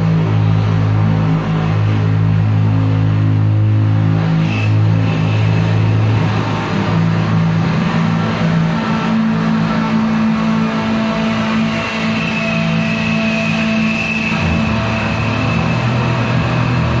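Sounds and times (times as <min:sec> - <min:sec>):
distorted electric guitar drone: 0:00.0 - 0:17.0.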